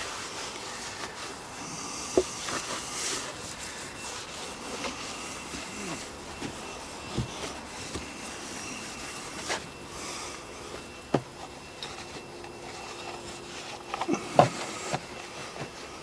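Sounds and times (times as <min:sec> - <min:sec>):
rag wiping motor casing: 0:00.0 - 0:16.0.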